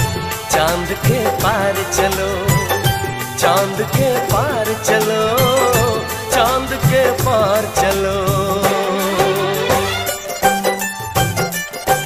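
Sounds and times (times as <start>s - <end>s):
film song with steady beat: 0.0s - 12.0s.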